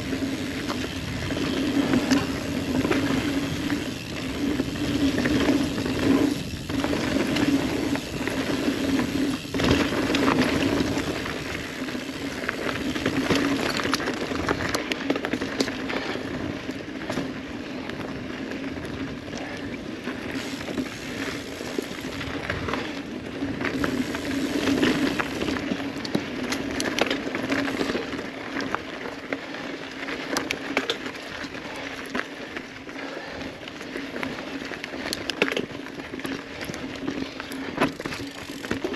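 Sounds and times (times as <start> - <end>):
bike clicks and rattles: 0.0 - 38.9
knobby tyres humming on dirt: 0.0 - 38.9.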